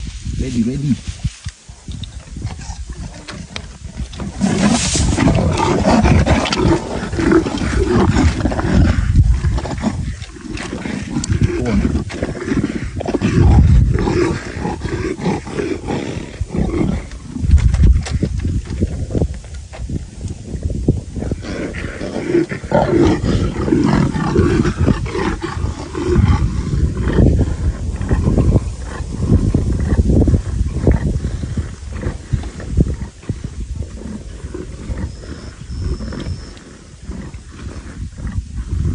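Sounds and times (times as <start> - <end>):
leopards snarling and growling: 1.7 - 19.3, 20.5 - 38.9.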